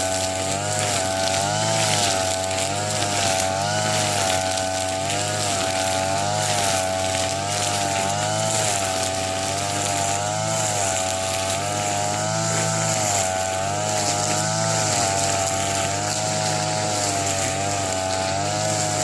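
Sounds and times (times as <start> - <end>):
brush cutter cutting grass: 0.0 - 19.0.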